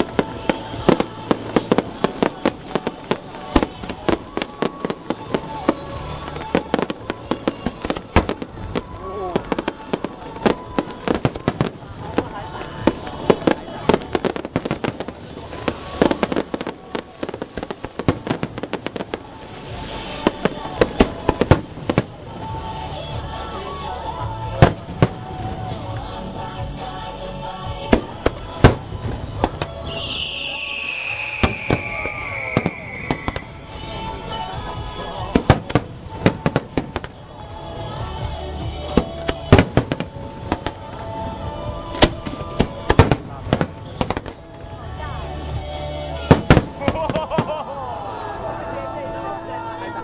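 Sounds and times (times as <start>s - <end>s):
fireworks bangs and crackles: 0.0s - 47.7s.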